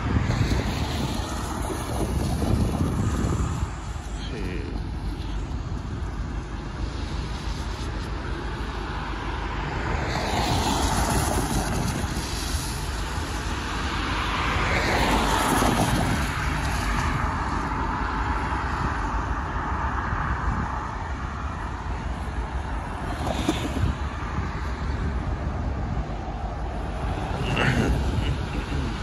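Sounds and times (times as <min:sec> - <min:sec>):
low traffic rumble: 0:00.0 - 0:29.0
tyres hissing on wet road: 0:00.0 - 0:29.0.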